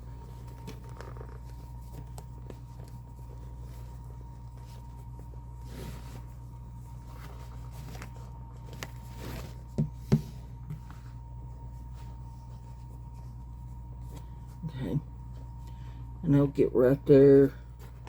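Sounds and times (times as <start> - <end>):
fabric rustling: 0.0 - 15.6
steady low hum: 0.0 - 18.0.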